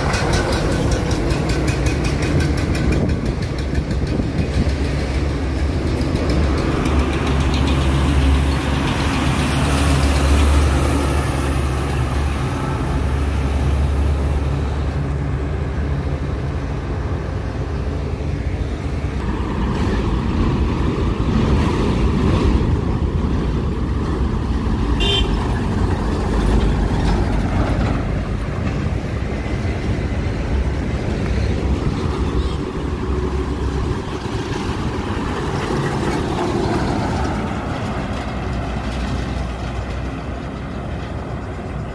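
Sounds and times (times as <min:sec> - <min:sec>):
highway traffic rumble: 0:00.0 - 0:41.9.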